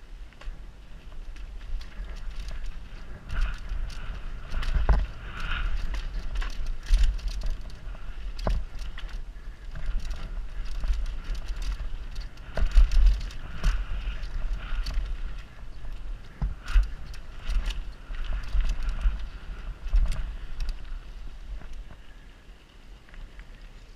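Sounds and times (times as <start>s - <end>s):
bike clattering and rattling: 0.0s - 22.2s
bike tyres rumbling on dirt: 0.0s - 23.9s.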